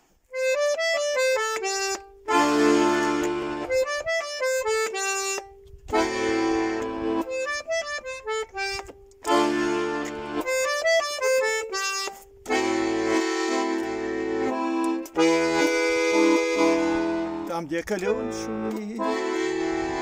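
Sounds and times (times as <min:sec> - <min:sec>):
button accordion playing: 0:00.2 - 0:20.0.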